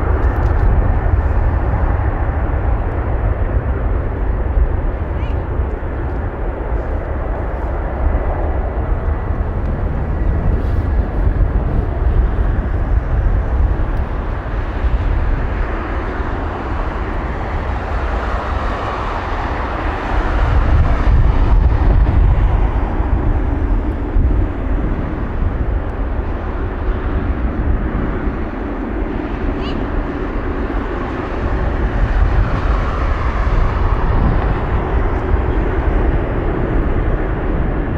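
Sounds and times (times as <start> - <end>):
jet engines at takeoff power: 0.0 - 37.9.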